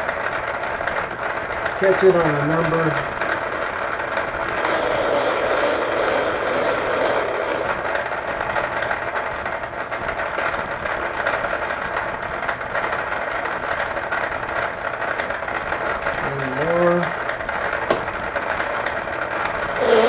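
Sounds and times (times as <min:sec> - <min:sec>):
metal lathe humming: 0:00.0 - 0:20.0.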